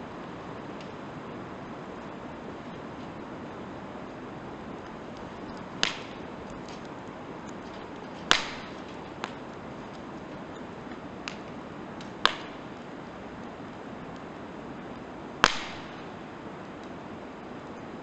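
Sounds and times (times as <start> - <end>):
rush of campfire flames: 0.0 - 18.0
firewood popping: 2.0 - 17.0.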